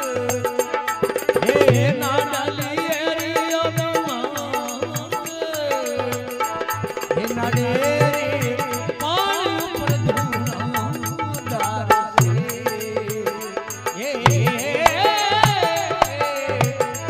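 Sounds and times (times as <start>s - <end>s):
jingling percussion: 0.0s - 17.0s
steady drum beat: 0.2s - 17.0s.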